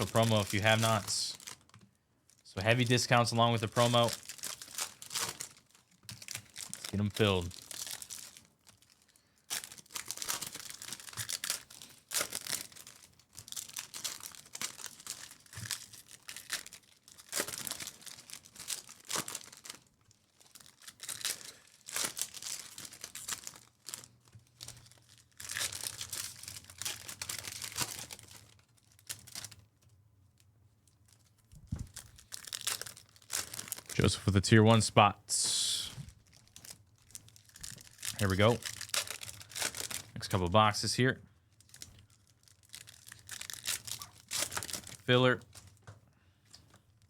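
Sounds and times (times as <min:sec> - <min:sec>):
foil wrappers tearing and crinkling: 0:00.0 - 0:29.7, 0:31.1 - 0:34.2, 0:35.5 - 0:40.4, 0:41.5 - 0:45.8.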